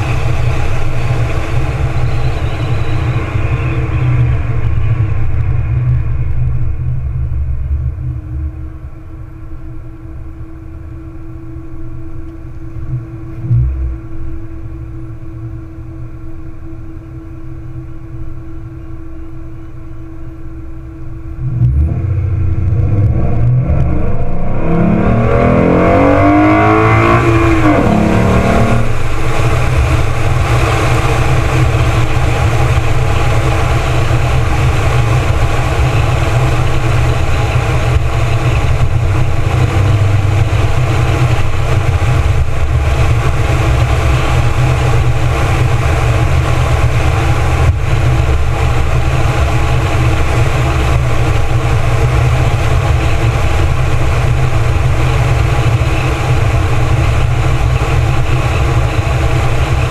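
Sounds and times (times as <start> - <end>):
wind rushing over microphone: 0.0 - 10.3, 21.4 - 59.9
car engine idling and accelerating: 0.0 - 59.9.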